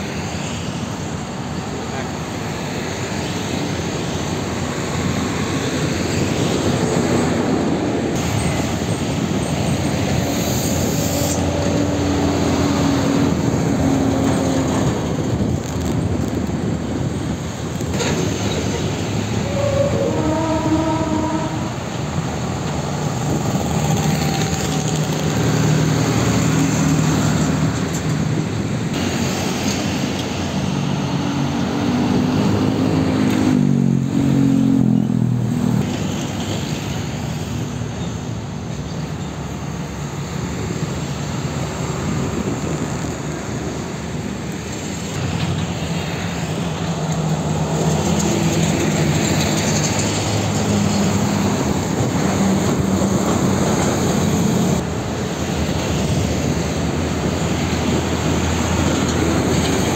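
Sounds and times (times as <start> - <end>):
heavy diesel trucks driving past: 0.0 - 59.9
motorcycle and car traffic: 0.0 - 59.9.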